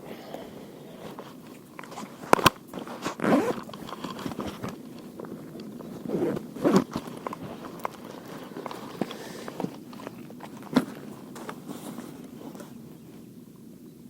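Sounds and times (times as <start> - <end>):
rustling and scraping: 0.8 - 13.4.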